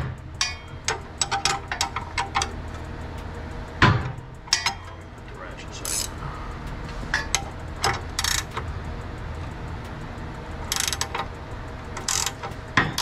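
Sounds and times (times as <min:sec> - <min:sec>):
ratchet wrench clicking: 0:00.0 - 0:13.0.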